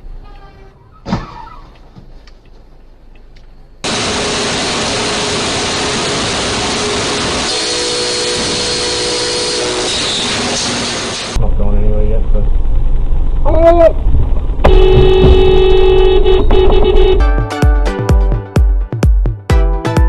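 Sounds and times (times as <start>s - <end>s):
engine and road noise: 0.0s - 17.2s.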